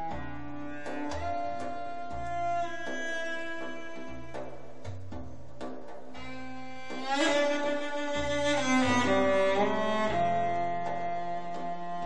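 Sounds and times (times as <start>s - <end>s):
solo cello music: 0.0s - 12.0s.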